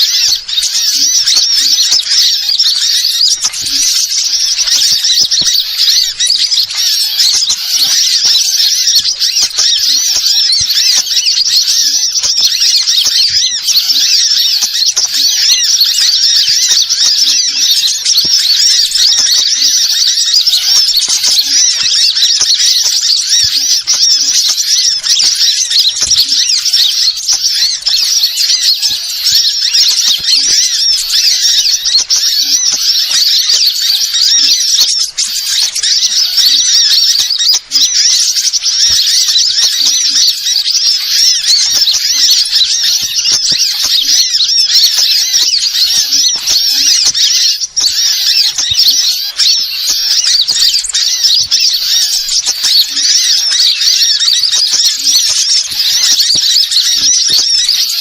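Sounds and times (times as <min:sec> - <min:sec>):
many small birds chirping: 0:00.0 - 0:58.0.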